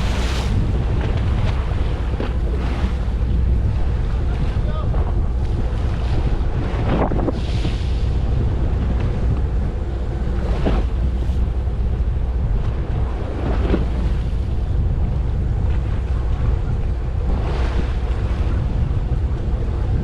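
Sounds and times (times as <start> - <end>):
water washing past: 0.0 - 19.0
boat motor rumble: 0.0 - 20.0
water swishes: 0.0 - 20.0
wind buffeting microphone: 0.0 - 20.0.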